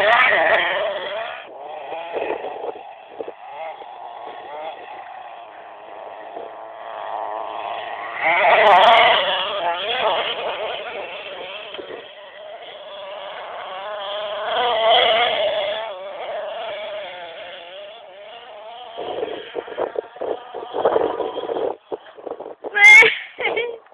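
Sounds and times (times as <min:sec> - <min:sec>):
rc truck engine revving: 0:00.0 - 0:23.9.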